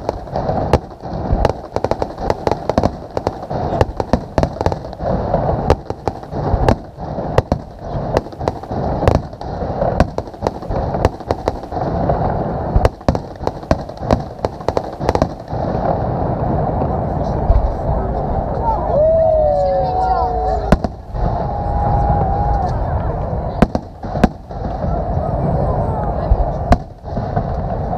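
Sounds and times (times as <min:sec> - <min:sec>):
fireworks bangs and cracks: 0:00.0 - 0:27.9.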